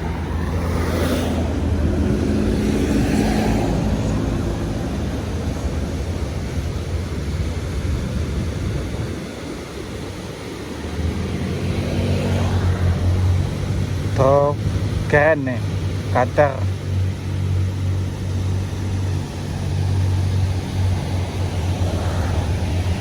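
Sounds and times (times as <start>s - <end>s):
heavy vehicle engine droning: 0.0s - 23.0s.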